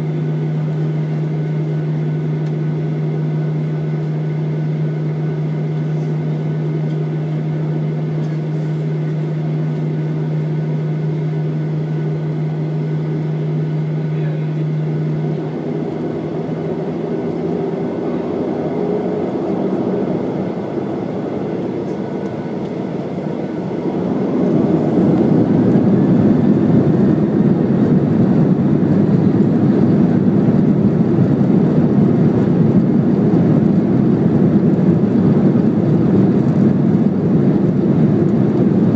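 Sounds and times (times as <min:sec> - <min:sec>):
jet engines heard from cabin: 0:00.0 - 0:38.9
jet engines spooling up whine: 0:00.0 - 0:38.9.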